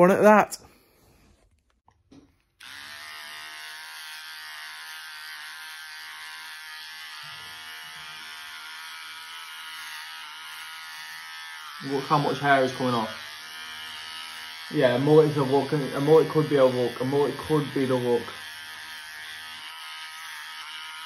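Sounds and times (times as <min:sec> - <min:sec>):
electric hair clipper buzzing: 0:02.5 - 0:21.0.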